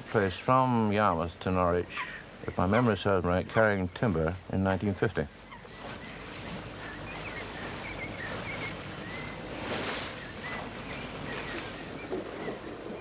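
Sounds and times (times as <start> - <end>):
water washing along a hull: 0.0 - 13.0
wind: 0.0 - 13.0.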